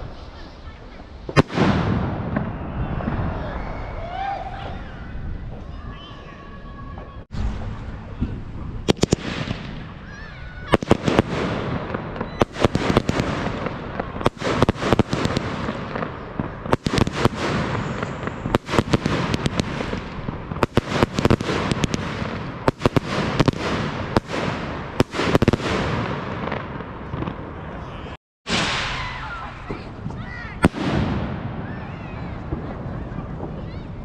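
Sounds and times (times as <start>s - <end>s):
fireworks crackling: 0.0s - 3.4s, 7.3s - 34.0s
fireworks bangs: 0.0s - 34.0s.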